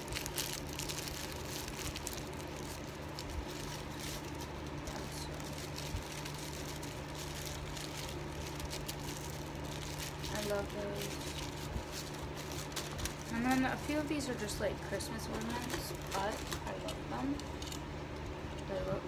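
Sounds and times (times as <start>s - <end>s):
tissue paper rustling: 0.0s - 17.7s
steady low hum: 0.0s - 19.0s.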